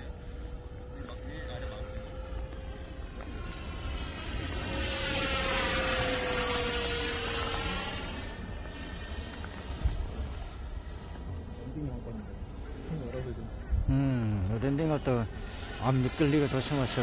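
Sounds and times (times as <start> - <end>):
model jet fan whining past: 0.0 - 17.0.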